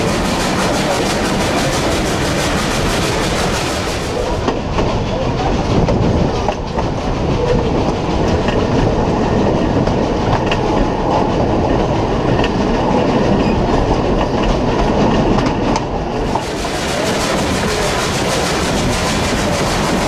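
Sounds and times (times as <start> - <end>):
rail joint clicks: 0.0 - 20.0
train wheels rumbling on rail: 0.0 - 20.0.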